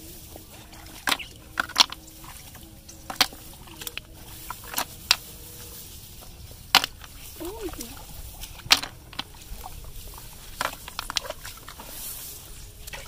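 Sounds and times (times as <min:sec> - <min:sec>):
rustles and squelches in wet grass: 0:00.0 - 0:13.0.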